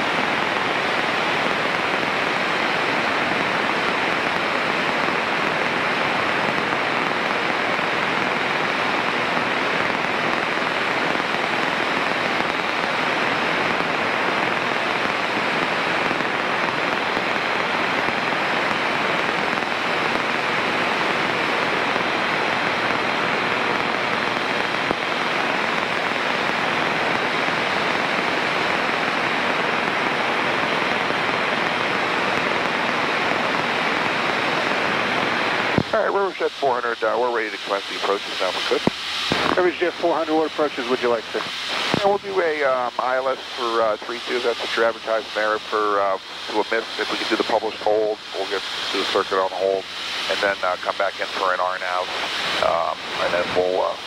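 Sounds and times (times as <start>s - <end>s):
steady headset hiss: 0.0s - 54.0s.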